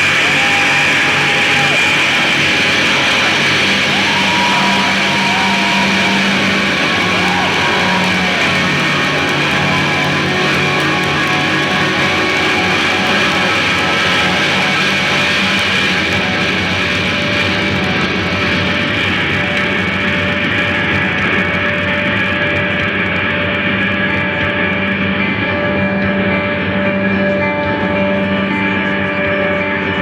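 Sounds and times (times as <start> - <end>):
bass: 0.0 - 30.0
distorted electric guitar feedback: 0.0 - 30.0.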